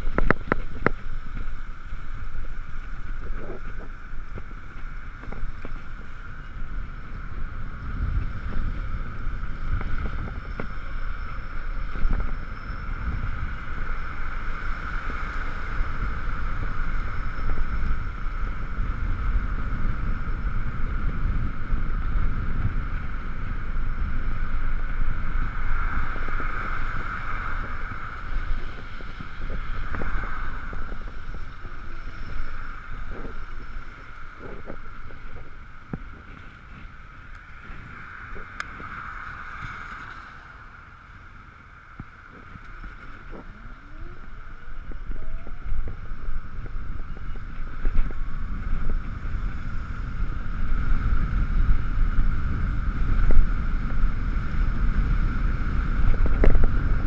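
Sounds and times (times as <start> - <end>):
mid-pitched electric whine: 0.0 - 57.0
steady rumble: 0.0 - 57.0
wind buffeting on camera: 0.0 - 57.0.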